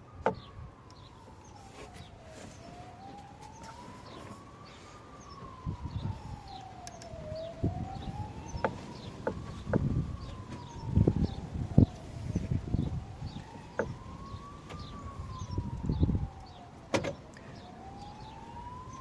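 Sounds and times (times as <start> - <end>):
faint siren wailing: 0.0 - 19.0.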